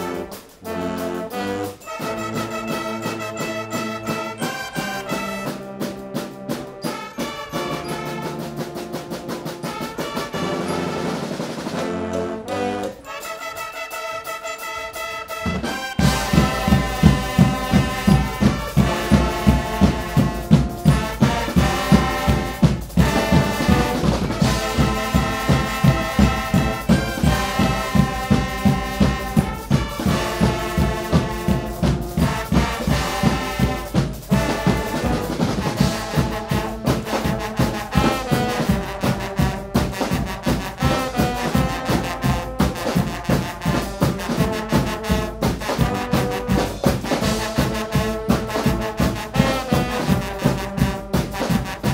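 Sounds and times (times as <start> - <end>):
brass band playing: 0.0 - 51.9
drums and cymbals: 0.0 - 51.9.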